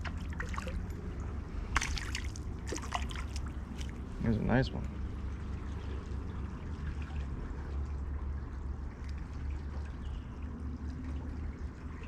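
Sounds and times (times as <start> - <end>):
creek water trickling: 0.0 - 12.0
low rumble: 0.0 - 12.0.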